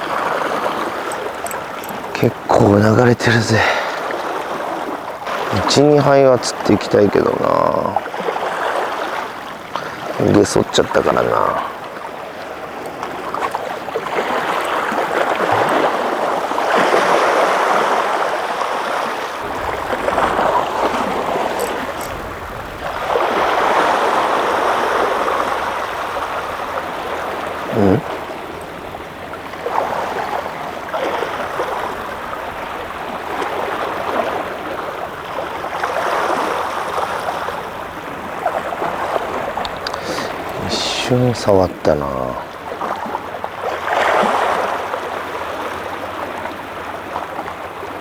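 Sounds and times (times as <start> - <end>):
sea water surging against shore: 0.0 - 48.0.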